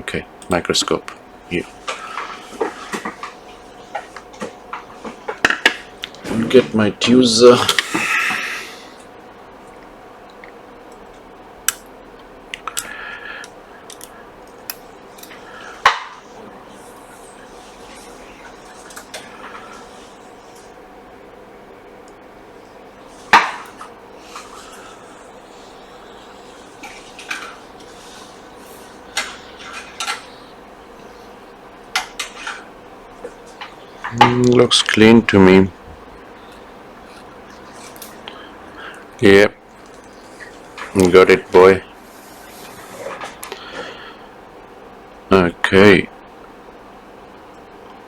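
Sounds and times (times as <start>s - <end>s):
faint hum: 0.0s - 48.0s.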